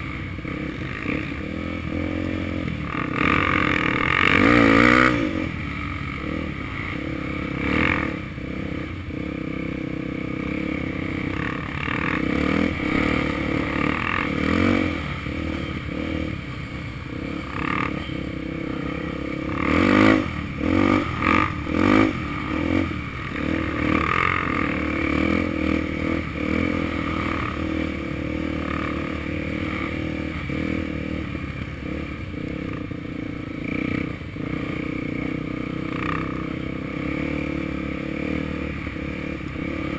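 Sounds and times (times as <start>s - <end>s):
motorcycle engine running: 0.0s - 39.9s
motorcycle throttle blips: 0.0s - 39.9s.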